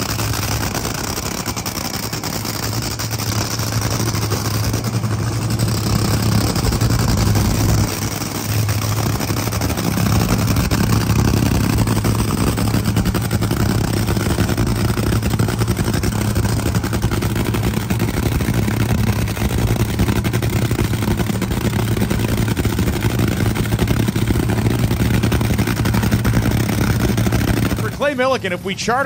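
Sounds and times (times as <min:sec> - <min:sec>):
dragster engine idling loudly: 0:00.0 - 0:29.0.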